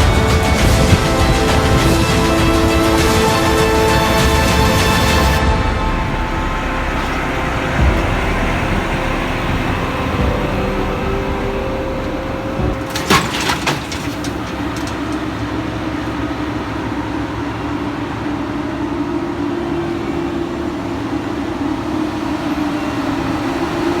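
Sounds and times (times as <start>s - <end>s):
heavy machinery engine running: 0.0s - 24.0s.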